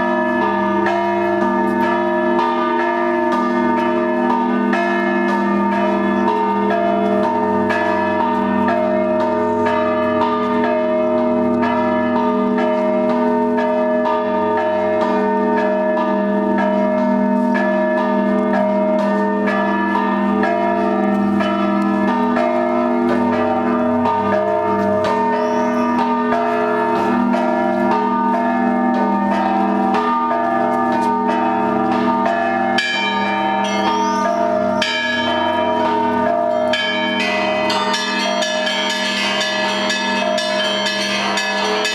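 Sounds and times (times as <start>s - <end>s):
deep bells ringing: 0.0s - 41.9s
quick higher bells: 0.0s - 41.9s.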